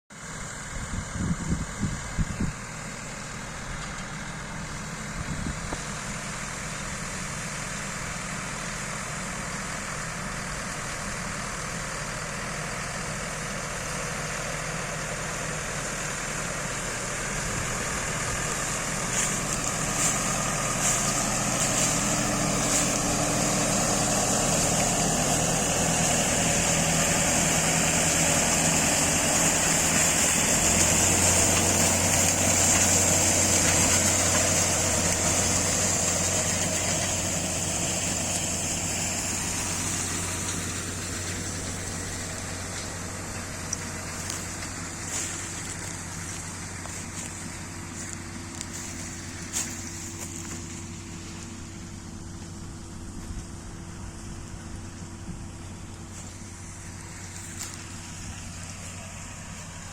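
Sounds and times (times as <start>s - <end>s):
tractor engine running: 0.1s - 59.9s.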